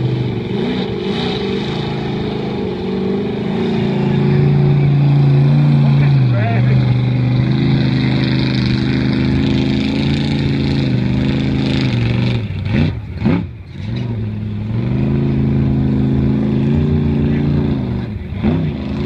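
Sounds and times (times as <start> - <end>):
truck engine running hard: 0.0 - 19.0.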